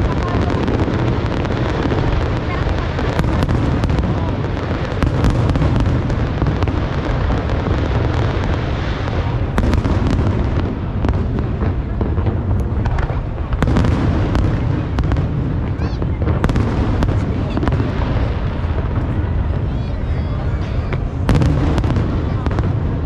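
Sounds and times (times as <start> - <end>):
fireworks rumble of booms: 0.0 - 23.0
sharp firework bangs: 0.0 - 23.0.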